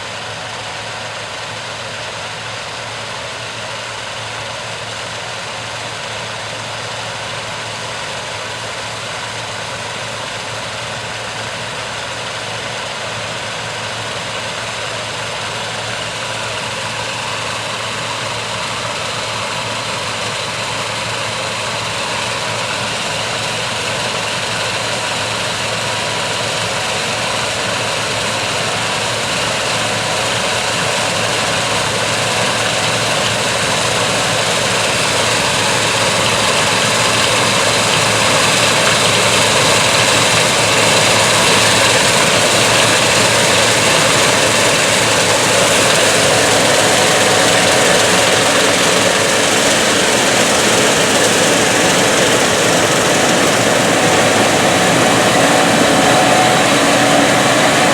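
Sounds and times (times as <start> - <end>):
combine harvester engine humming: 0.0 - 57.9.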